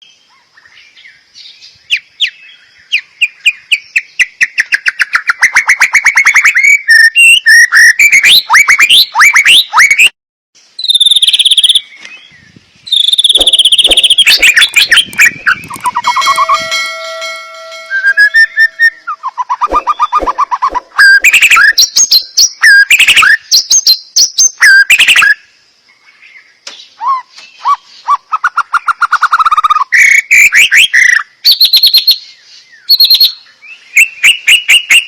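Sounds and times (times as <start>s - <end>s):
songbird singing whistled song: 0.0s - 10.1s, 10.8s - 35.0s.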